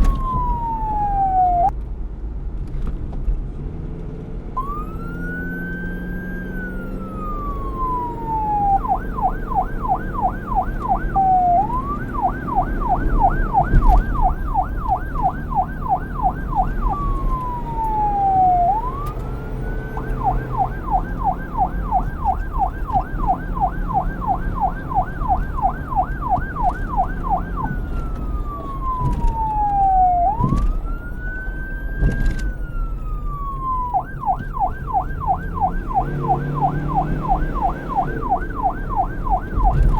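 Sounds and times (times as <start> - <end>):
police siren wailing and yelping: 0.0 - 1.7, 4.6 - 39.9.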